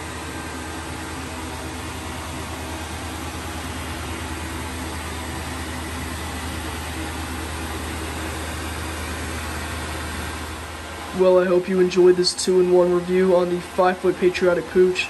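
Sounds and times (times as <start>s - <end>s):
blower fan humming: 0.0s - 15.0s.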